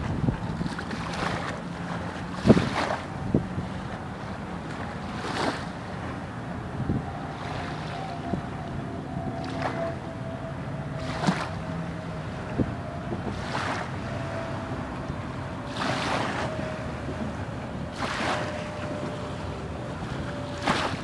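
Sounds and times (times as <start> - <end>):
low motor hum: 0.0 - 21.0
water lapping on riverbank: 0.0 - 21.0.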